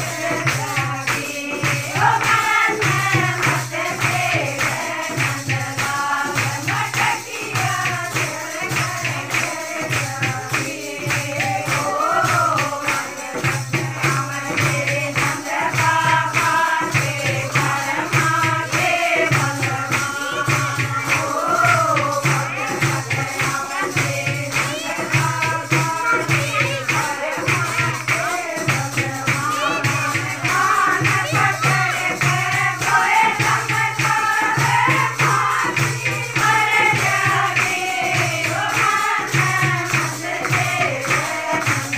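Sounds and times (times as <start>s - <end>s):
rhythmic hand-clapping: 0.0s - 41.9s
women singing together: 0.0s - 41.9s.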